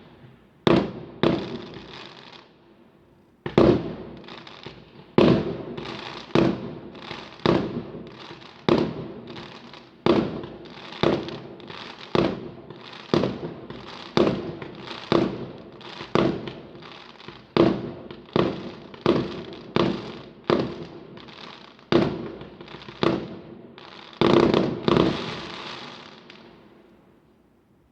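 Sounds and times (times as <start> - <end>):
fireworks bangs echoing: 0.1 - 2.2, 3.5 - 23.6, 24.2 - 26.7.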